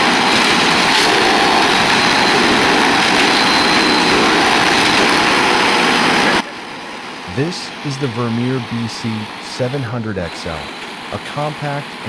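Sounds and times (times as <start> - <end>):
wood chipper running: 0.0 - 12.0.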